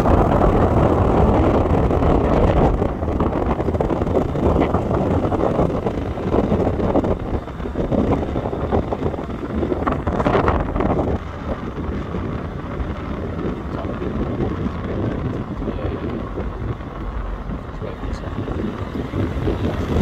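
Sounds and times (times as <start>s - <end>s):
car engine and road rumble: 0.0s - 20.0s
wind buffeting microphone: 0.0s - 20.0s.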